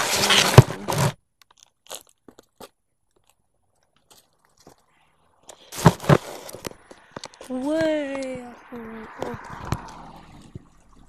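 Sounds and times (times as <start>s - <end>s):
crackling and scraping: 0.0s - 11.0s.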